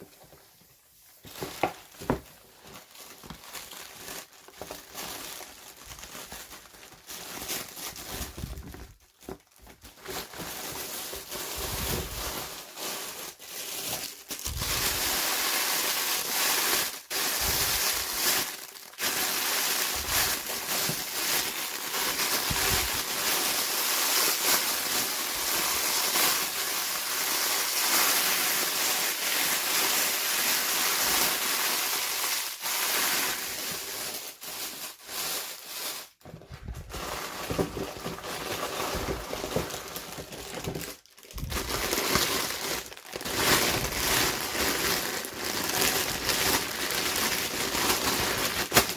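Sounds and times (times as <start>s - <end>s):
plastic packaging crinkling: 0.1s - 48.9s.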